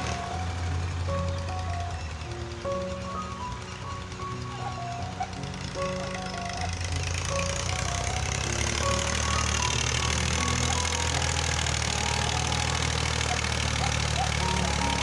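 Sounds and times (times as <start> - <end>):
faint music: 0.0 - 15.0
tractor diesel engine running: 0.0 - 15.0.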